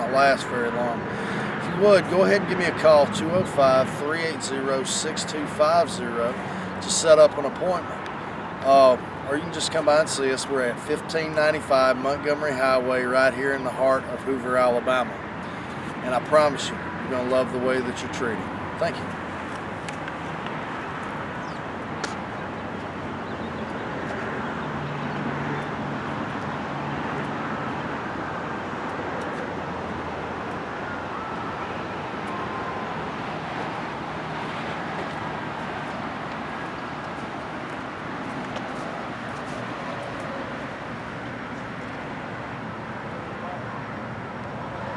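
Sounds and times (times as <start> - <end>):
road traffic: 0.0 - 44.9.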